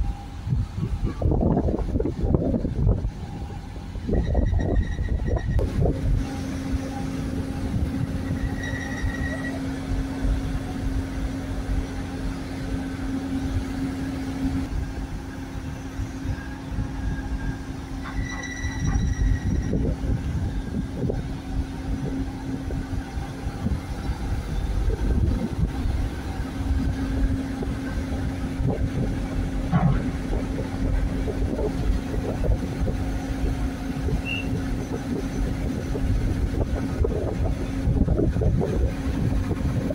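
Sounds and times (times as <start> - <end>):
diesel engines running: 0.0 - 39.9
wind rumble on microphone: 0.0 - 39.9.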